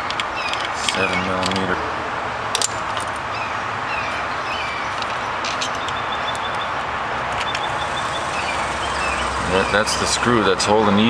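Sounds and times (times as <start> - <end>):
outdoor background noise: 0.0 - 11.0
small birds chirping: 0.2 - 2.0, 3.2 - 11.0.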